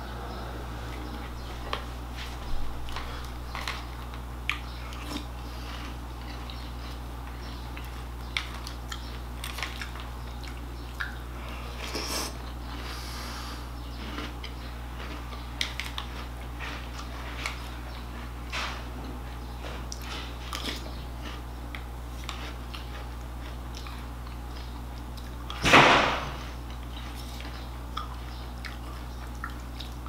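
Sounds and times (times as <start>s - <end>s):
steady low hum: 0.0s - 30.0s
chewing crunchy cereal: 0.8s - 25.6s, 26.4s - 30.0s.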